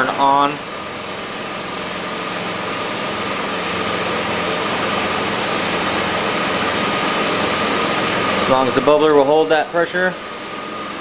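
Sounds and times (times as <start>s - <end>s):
engine idling: 0.0s - 11.0s
hydrogen generator hissing and fizzing: 0.0s - 11.0s
thin steady whine: 0.0s - 11.0s.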